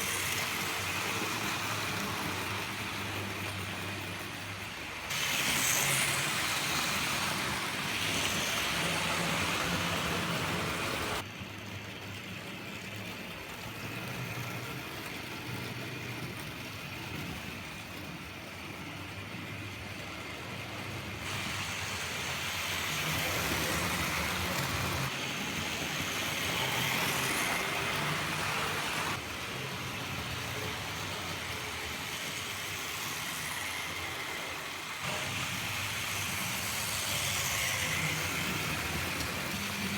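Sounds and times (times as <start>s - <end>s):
model train motors whirring: 0.0s - 39.9s.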